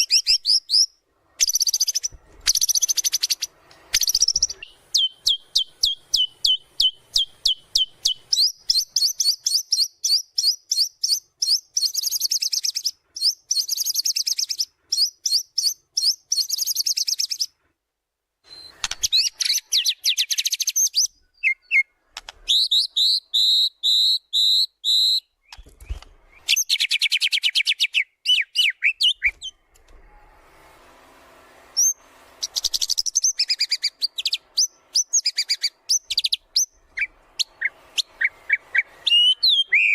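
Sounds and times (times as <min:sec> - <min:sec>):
bird singing trills and whistles: 0:00.0 - 0:17.5, 0:18.5 - 0:29.5, 0:31.8 - 0:39.9.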